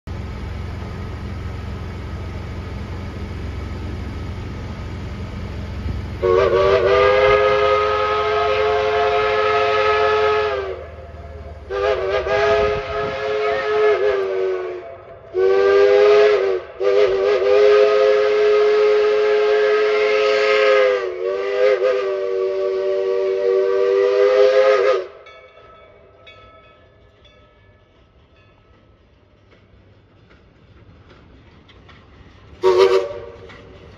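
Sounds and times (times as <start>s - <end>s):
steam locomotive chime whistle: 0.1s - 28.8s, 32.6s - 33.5s.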